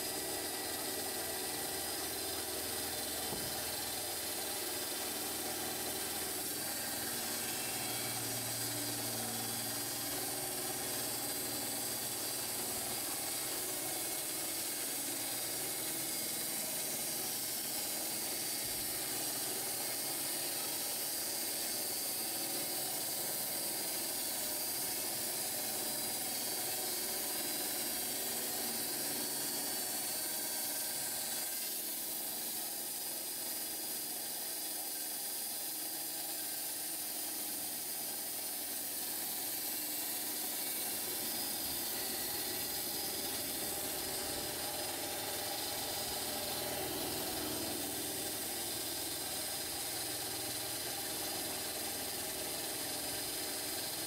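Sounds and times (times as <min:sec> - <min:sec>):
band saw blade sawing log: 0:00.0 - 0:32.3, 0:38.8 - 0:51.1
motor drone: 0:00.0 - 0:54.0.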